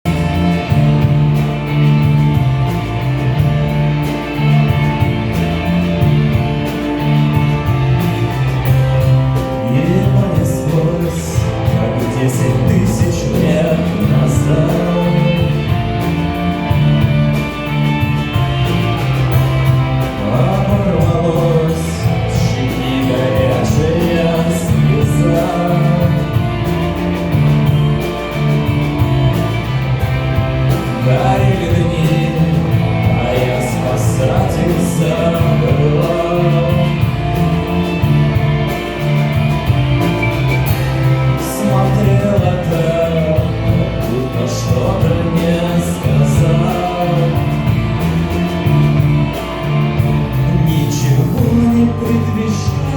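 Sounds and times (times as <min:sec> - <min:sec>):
low bass notes: 0:00.0 - 0:52.9.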